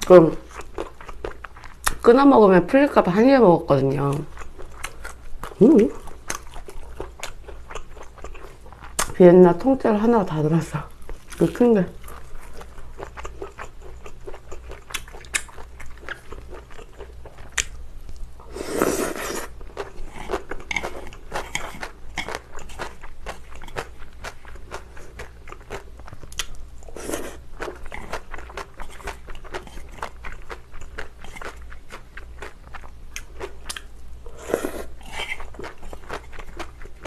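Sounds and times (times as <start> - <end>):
wet crunchy chewing: 4.0 - 9.2, 11.0 - 37.0.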